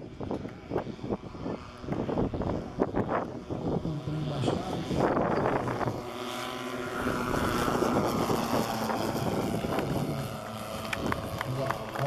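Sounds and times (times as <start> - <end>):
model plane engines droning: 0.0 - 12.0.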